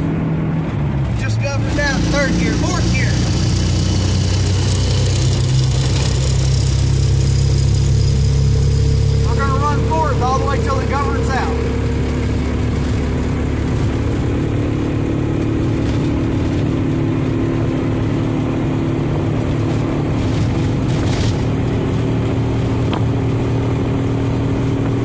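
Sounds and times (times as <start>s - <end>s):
engine running under load: 0.0s - 25.0s.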